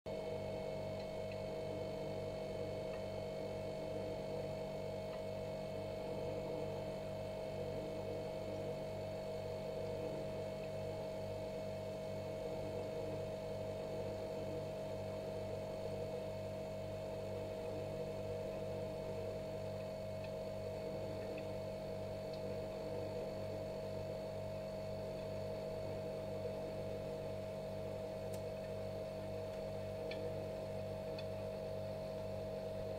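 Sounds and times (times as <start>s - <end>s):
refrigerator humming: 0.1s - 32.9s.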